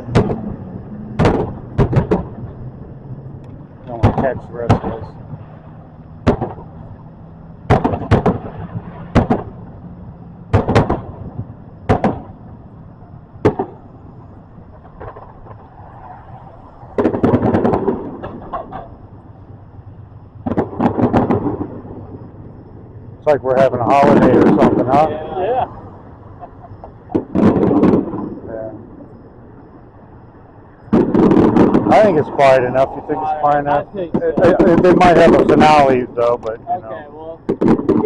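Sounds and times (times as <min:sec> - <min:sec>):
fireworks crackling volleys: 0:00.0 - 0:02.9, 0:03.5 - 0:29.3, 0:30.8 - 0:38.0
fireworks banging: 0:00.0 - 0:38.0.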